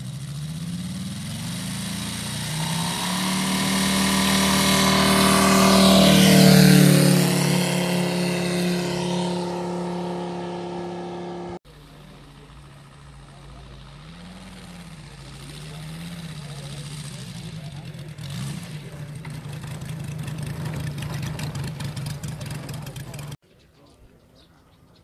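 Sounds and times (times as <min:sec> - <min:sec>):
distant model aircraft engine: 0:00.0 - 0:23.4
model plane engine at full throttle: 0:00.0 - 0:23.4.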